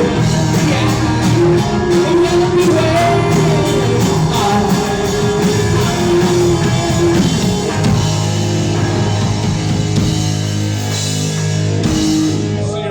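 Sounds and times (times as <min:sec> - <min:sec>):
drum kit: 0:00.0 - 0:12.6
electric guitars: 0:00.0 - 0:12.9
rock band playing live: 0:00.0 - 0:12.9.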